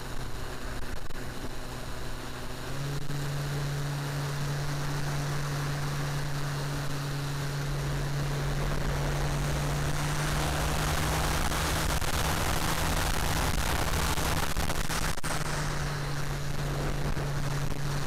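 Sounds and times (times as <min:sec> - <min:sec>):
electric motor and propeller humming: 0:00.0 - 0:18.0.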